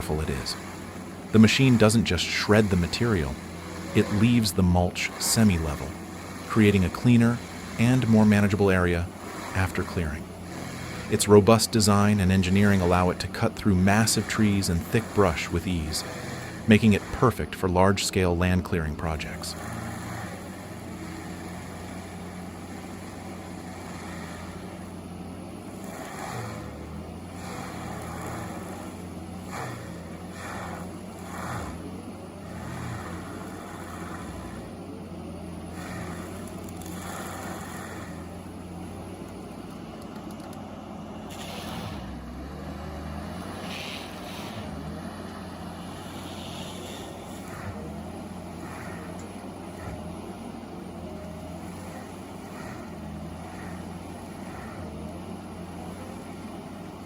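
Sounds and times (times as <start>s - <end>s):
heavy diesel engine running: 0.0s - 57.0s
mulcher grinding trees: 0.0s - 57.0s.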